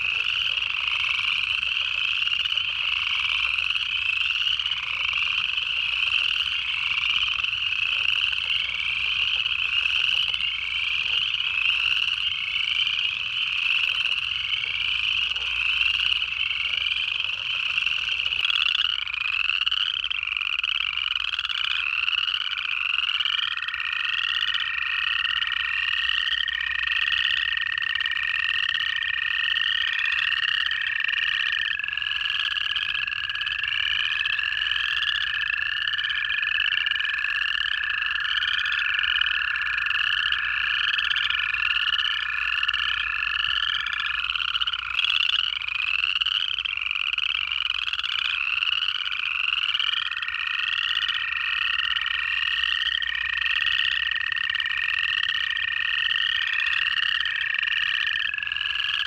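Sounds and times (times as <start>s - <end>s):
chorus frogs trilling: 0.0s - 59.0s
toads long steady trills: 0.0s - 59.0s.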